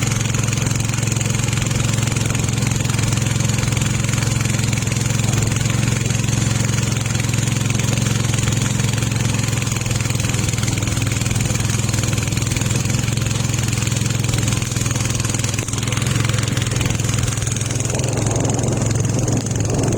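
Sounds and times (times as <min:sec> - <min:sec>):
boat engine running: 0:00.0 - 0:19.9.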